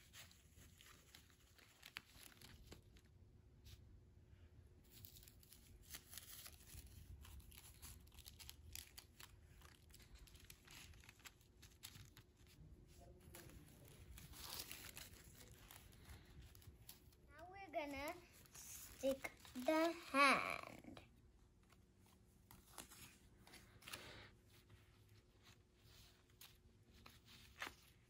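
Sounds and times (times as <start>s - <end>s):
paper rustling and crinkling: 0.0s - 3.8s, 4.9s - 20.7s, 21.6s - 28.0s.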